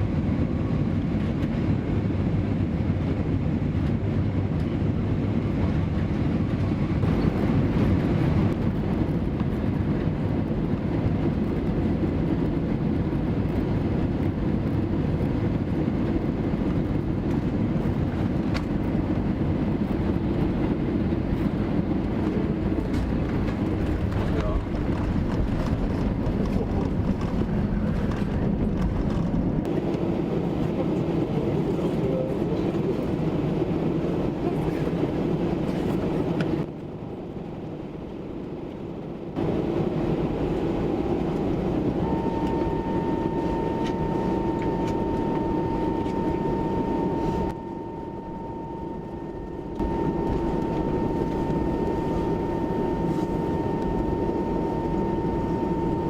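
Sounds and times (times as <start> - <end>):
jet engines rumbling: 0.0 - 56.0
steady high whine: 5.3 - 56.0.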